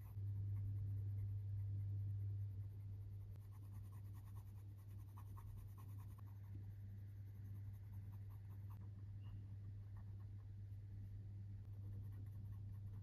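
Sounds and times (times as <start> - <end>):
pencil scratching on paper: 0.0 - 6.6, 7.2 - 9.0, 9.7 - 10.5, 11.6 - 13.0
steady low hum: 0.0 - 13.0.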